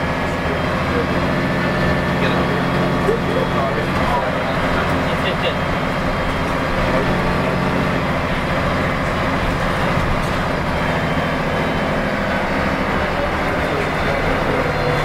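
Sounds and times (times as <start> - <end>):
bus diesel engine droning: 0.0 - 15.0
road noise: 0.0 - 15.0.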